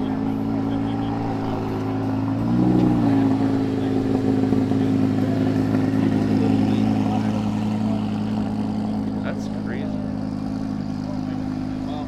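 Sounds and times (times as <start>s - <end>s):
car engine idling: 0.0s - 12.0s
engine revving: 0.0s - 12.0s.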